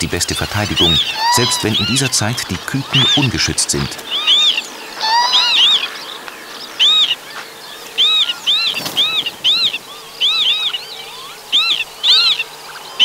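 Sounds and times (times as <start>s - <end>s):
lapwing alarm calls: 0.0s - 13.0s.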